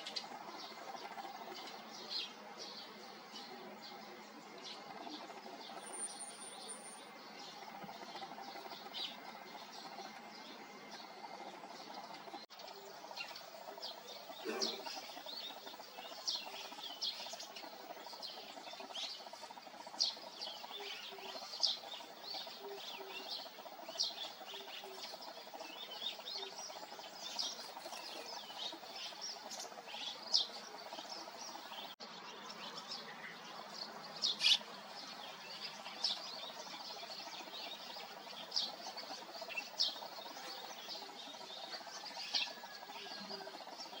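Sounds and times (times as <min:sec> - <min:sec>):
low background hum: 0:00.0 - 0:44.0
sparrows chirping: 0:00.0 - 0:44.0.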